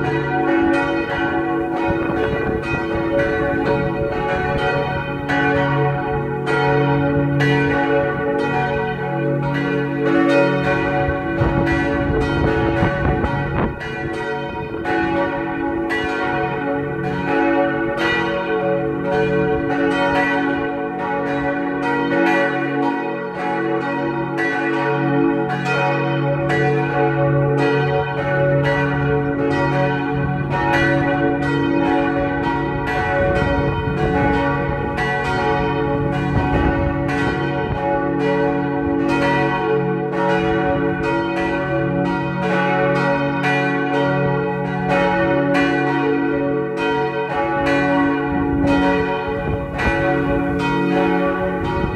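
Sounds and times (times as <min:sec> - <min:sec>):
church bells ringing a peal: 0:00.0 - 0:51.9.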